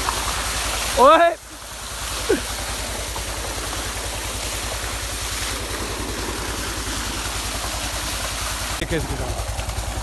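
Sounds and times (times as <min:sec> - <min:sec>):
pump engine chugging: 0:00.0 - 0:10.0
water pouring into tank: 0:00.0 - 0:10.0.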